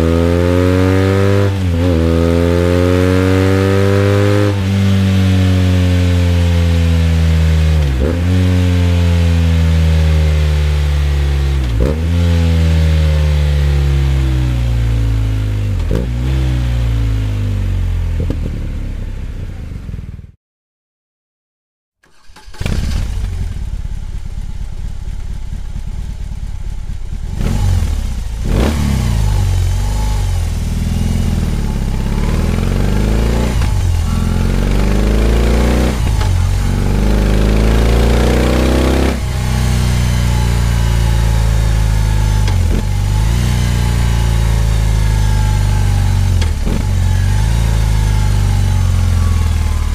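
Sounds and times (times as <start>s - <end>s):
motorcycle engine idling and revving: 0.0s - 20.4s, 22.1s - 49.9s.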